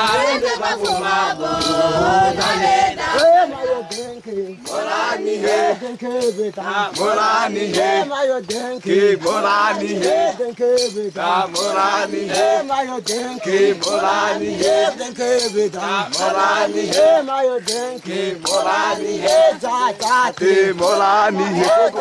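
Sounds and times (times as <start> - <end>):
group singing dance song: 0.0 - 22.0
sharp percussive beats: 0.0 - 22.0.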